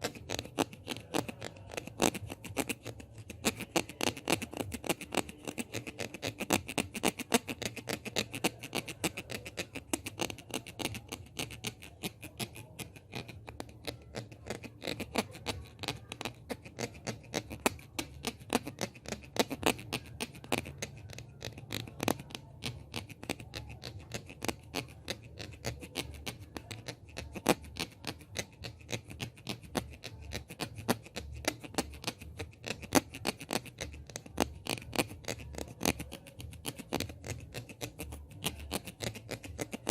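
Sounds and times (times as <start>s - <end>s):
hands tapping and rubbing microphone: 0.0s - 39.9s.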